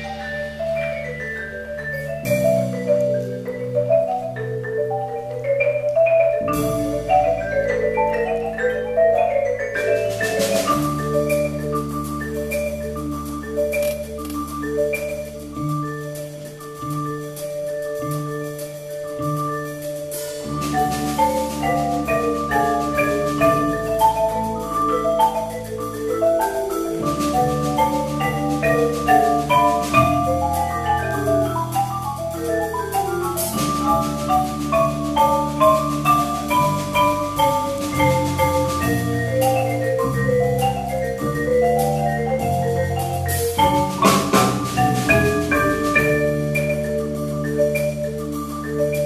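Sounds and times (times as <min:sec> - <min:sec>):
marimbas playing: 0:00.0 - 0:49.0.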